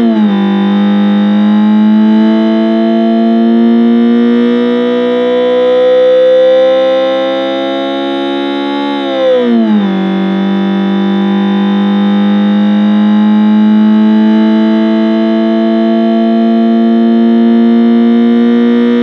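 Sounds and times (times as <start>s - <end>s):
synthetic engine sound: 0.0s - 19.0s.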